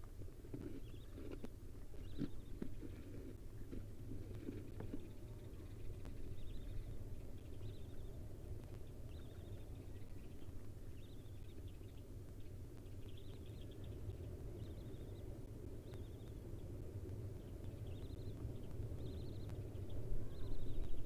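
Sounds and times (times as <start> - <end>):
low hum: 0.0 - 21.0
owl nestlings chittering: 0.5 - 21.0.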